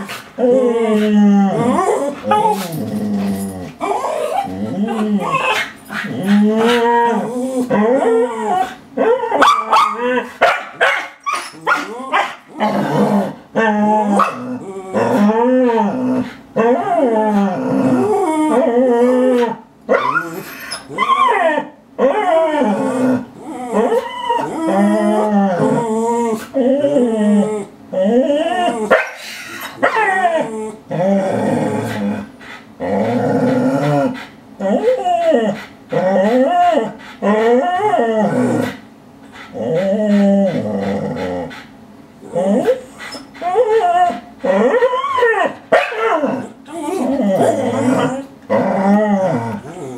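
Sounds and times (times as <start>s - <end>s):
dogs whining: 0.4s - 10.3s, 11.2s - 32.1s, 33.0s - 38.8s, 42.2s - 49.9s.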